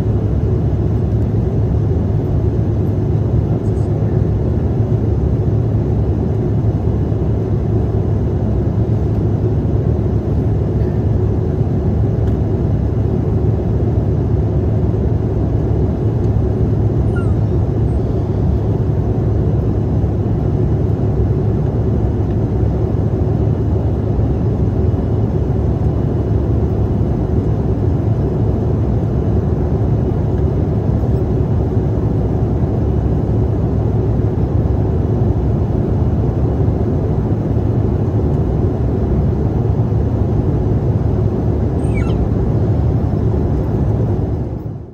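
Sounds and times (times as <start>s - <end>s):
airflow rush in jet cabin: 0.0s - 44.9s
jet engines droning: 0.0s - 44.9s.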